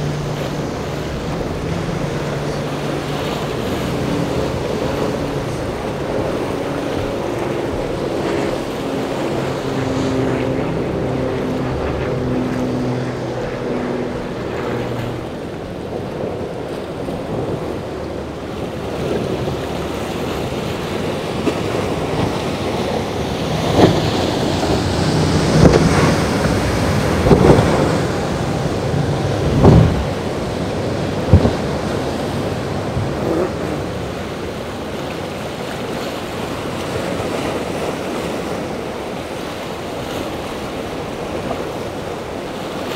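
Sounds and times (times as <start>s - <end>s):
boat engine hum: 0.0s - 42.9s
hull slapping waves: 0.0s - 42.9s
hull wash and spray: 0.0s - 42.9s
wind buffeting microphone: 0.0s - 42.9s.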